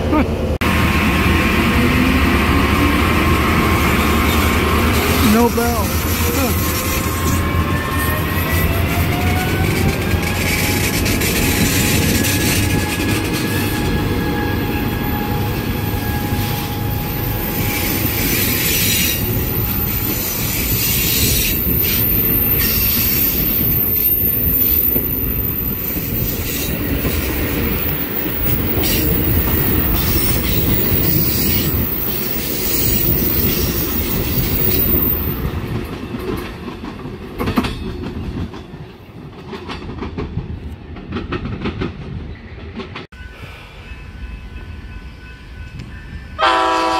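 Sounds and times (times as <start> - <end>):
passenger train rumbling past: 0.0 - 46.9.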